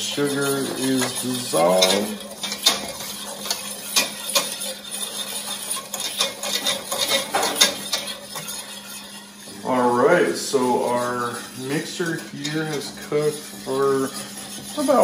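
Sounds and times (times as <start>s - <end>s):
whisk clicking against pan: 0.0s - 15.0s.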